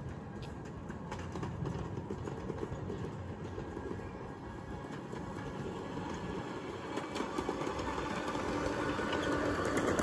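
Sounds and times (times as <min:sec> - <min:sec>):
miniature train wheels rumbling: 0:00.0 - 0:10.0.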